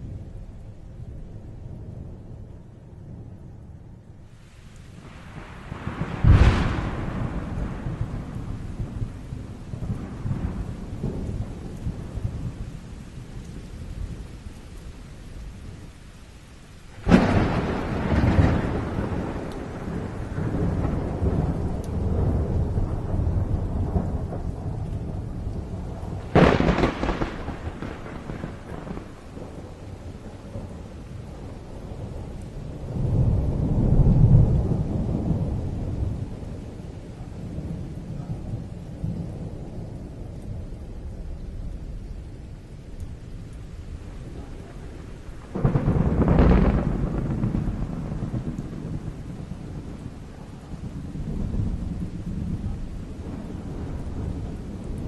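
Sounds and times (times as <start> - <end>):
long low thunder roll: 0.0 - 15.9, 16.8 - 55.0
steady rain: 0.0 - 55.0
thunderclaps rolling into rumble: 5.0 - 14.8, 16.9 - 55.0.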